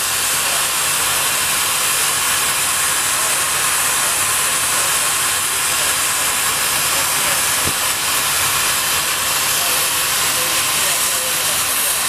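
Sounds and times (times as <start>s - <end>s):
steam engine hissing: 0.0s - 12.0s.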